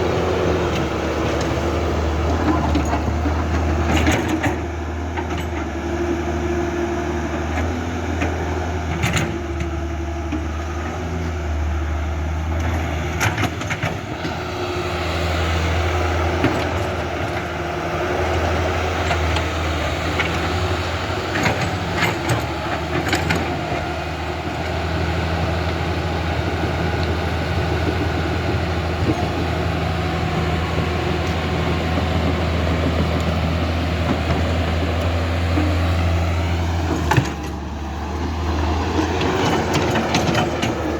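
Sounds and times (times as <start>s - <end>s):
excavator machinery humming: 0.0s - 40.9s.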